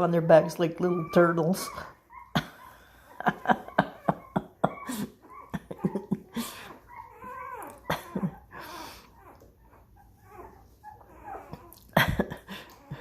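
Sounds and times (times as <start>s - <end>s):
puppies squeaking and whimpering: 0.0s - 13.0s.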